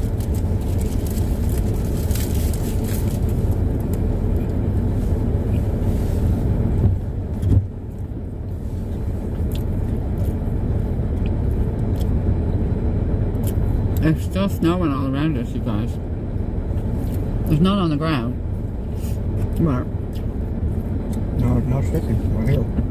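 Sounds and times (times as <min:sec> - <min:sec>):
car interior rumble: 0:00.0 - 0:22.9.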